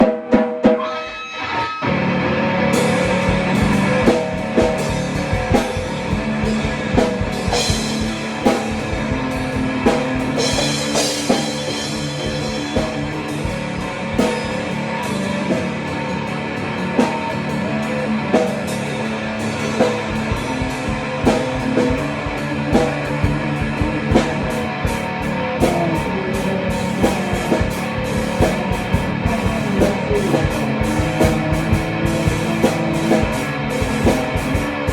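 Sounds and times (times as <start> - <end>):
drums and cymbals beat: 0.0 - 1.4, 2.7 - 34.9
instrumental rock music: 0.0 - 34.9.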